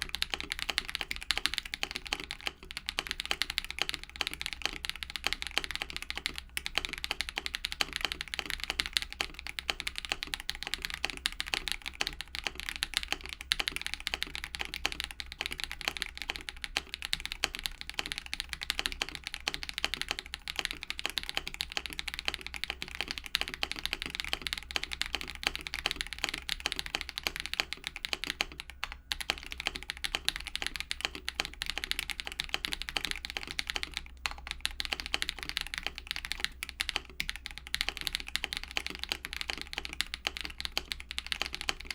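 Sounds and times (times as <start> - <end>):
fast typing on mechanical keyboard: 0.0 - 41.9.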